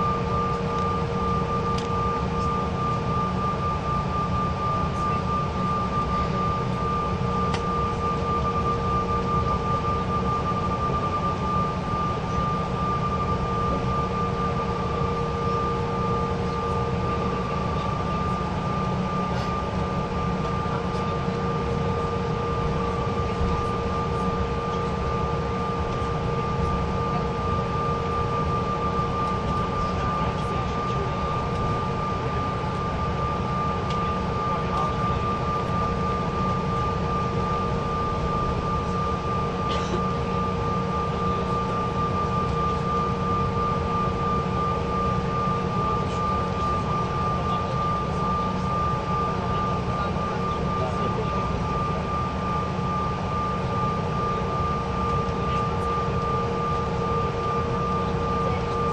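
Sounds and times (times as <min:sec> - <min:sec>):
jet engines low rumble: 0:00.0 - 0:58.9.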